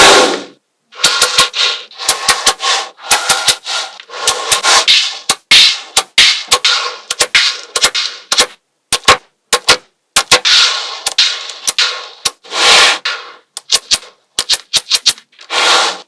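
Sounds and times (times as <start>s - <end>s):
magnetic balls clicking together: 1.0s - 12.4s, 13.5s - 15.4s.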